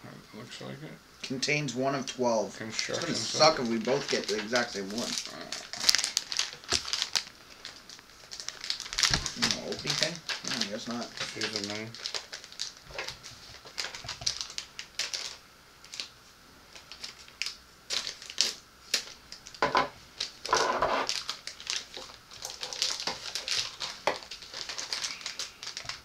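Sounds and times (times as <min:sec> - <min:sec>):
packets torn and crinkled: 0:02.8 - 0:19.6, 0:20.2 - 0:26.0.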